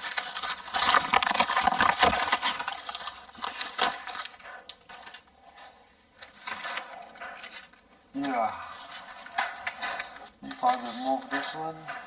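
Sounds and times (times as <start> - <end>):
crackling mesh patch handling: 0.0 - 7.9, 8.8 - 12.0.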